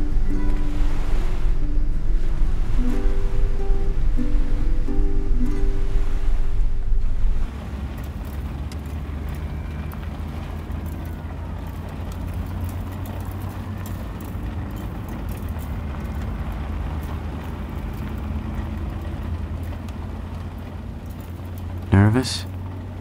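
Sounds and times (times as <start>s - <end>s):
car interior road and engine rumble: 0.0s - 23.0s.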